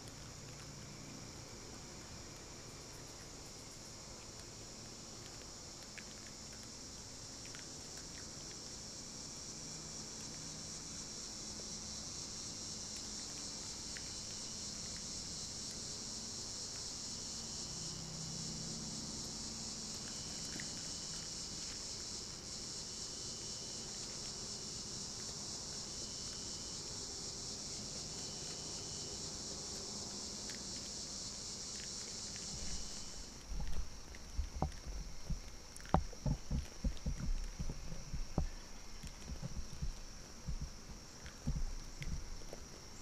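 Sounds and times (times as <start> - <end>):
crickets chirring: 0.0 - 43.0
lower insect call: 0.0 - 43.0.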